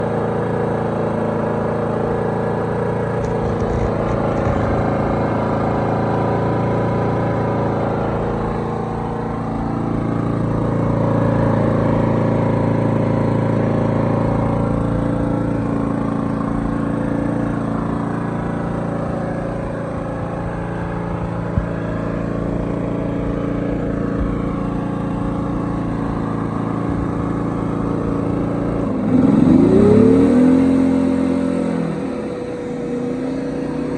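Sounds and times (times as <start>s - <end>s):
portable generator engine running: 0.0s - 33.9s.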